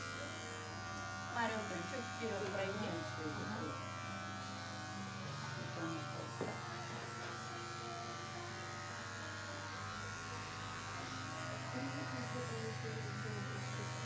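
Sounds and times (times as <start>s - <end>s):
electric hair clipper buzzing: 0.0s - 14.0s.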